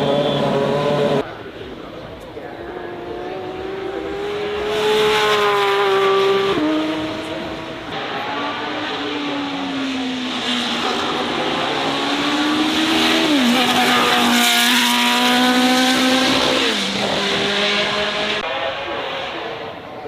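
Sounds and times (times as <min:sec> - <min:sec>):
race car accelerating past: 0:02.9 - 0:19.8.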